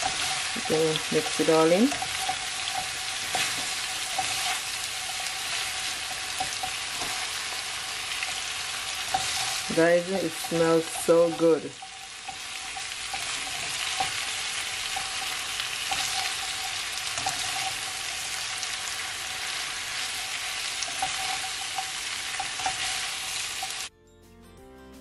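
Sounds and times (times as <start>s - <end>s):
vegetables sizzling in a pan: 0.0s - 23.9s.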